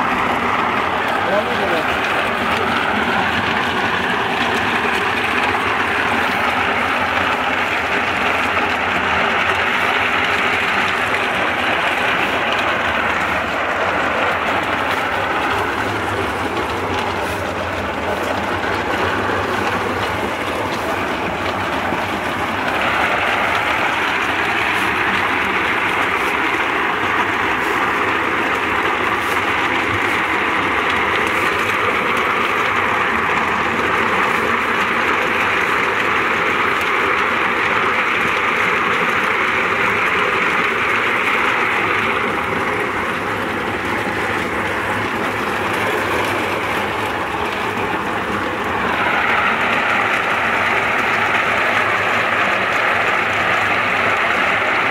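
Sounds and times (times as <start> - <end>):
walnut peeling machine running: 0.0 - 54.9
walnuts tumbling in a drum: 0.0 - 54.9.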